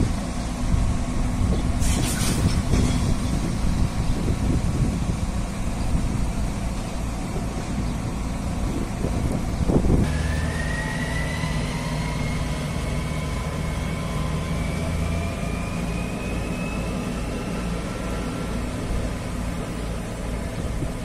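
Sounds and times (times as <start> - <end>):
electric locomotive humming: 0.0 - 21.0.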